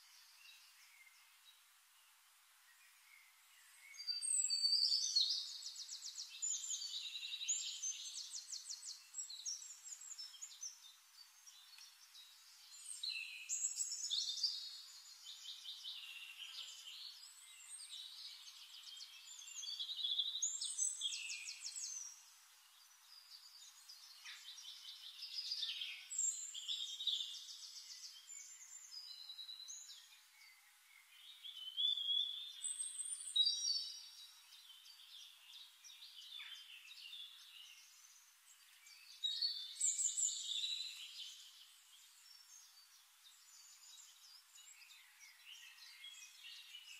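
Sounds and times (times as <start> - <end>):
songbird chirping and trilling: 0.0 - 46.9.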